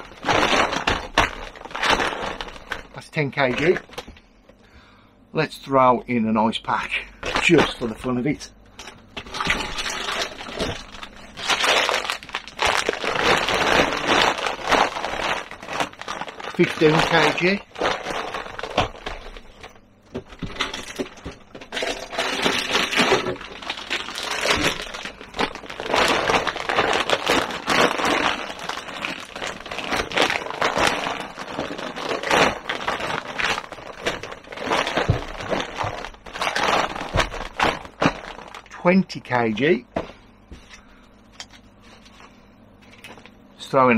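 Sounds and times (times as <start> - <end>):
plastic bags crinkling: 0.0 - 4.2, 6.8 - 40.8.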